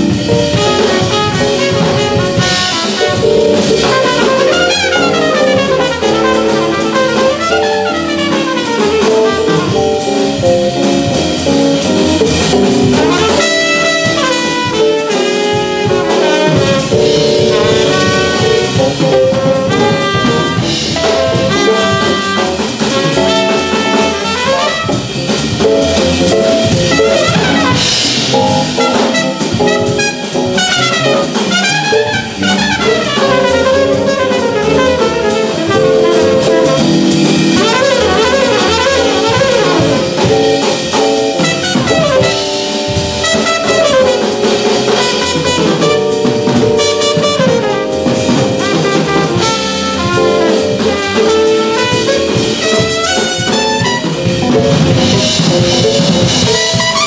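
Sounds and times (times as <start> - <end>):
drum kit: 0.0 - 57.0
trumpet solo: 0.0 - 57.0
upright bass: 0.0 - 57.0.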